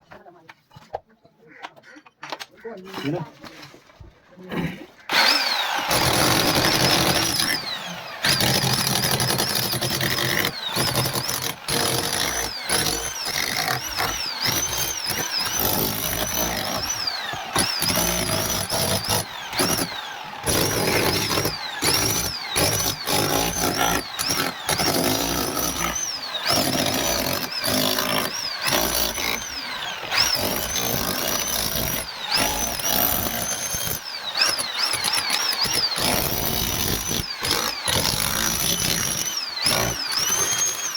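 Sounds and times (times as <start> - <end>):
angle grinder cutting masonry: 5.0 - 40.9.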